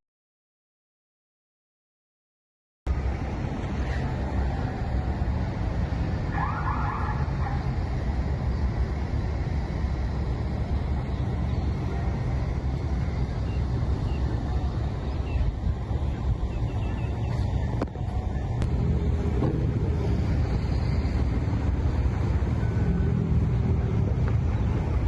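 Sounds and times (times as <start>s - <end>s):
car engine and road rumble: 2.9s - 25.0s.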